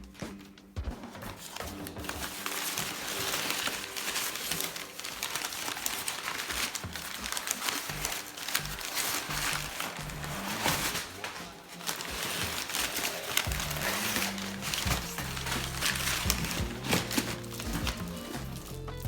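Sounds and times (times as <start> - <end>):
packaging crinkling: 1.2 - 19.0.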